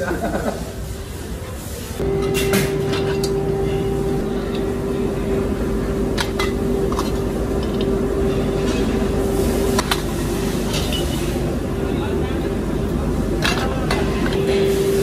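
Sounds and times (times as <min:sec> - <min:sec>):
factory machinery hum: 0:01.7 - 0:15.0.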